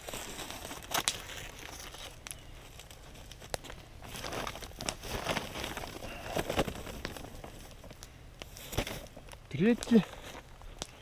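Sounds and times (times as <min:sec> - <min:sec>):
rustling and crinkling handling: 0:00.0 - 0:11.0.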